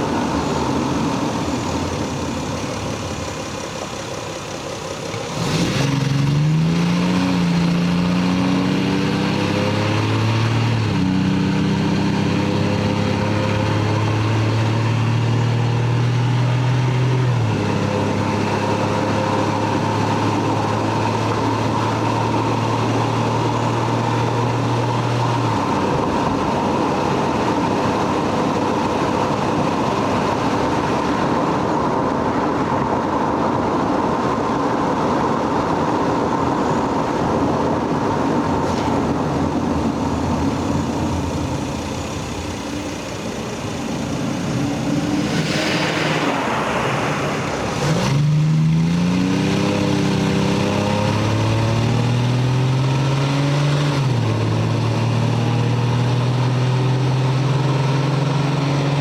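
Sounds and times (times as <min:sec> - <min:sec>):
car engine accelerating: 0:00.0 - 0:32.9, 0:34.0 - 0:59.0
road and wind noise: 0:00.0 - 0:59.0.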